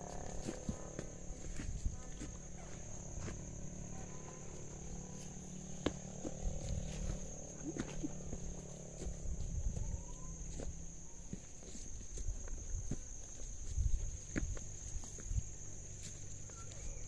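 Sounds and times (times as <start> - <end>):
footsteps on dirt path: 0.0 - 17.0
high-pitched insect drone: 0.0 - 17.0.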